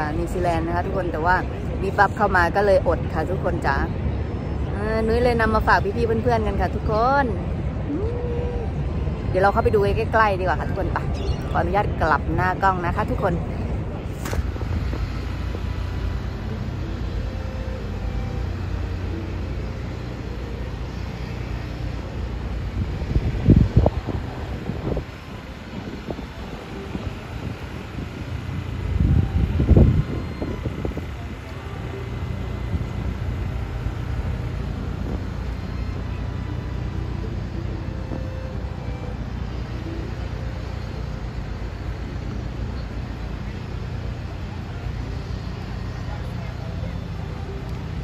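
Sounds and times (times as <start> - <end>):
low city rumble: 0.0 - 48.0.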